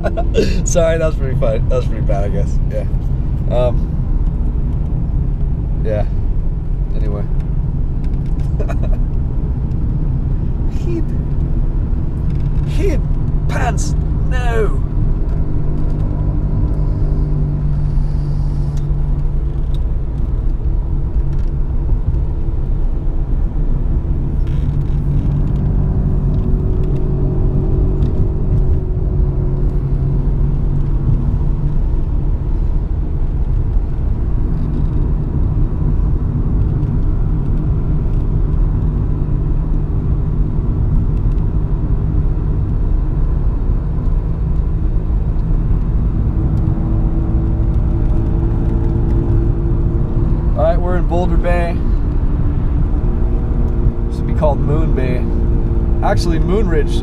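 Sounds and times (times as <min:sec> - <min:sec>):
car engine rumble: 0:00.0 - 0:57.0
tyres on road: 0:00.0 - 0:57.0.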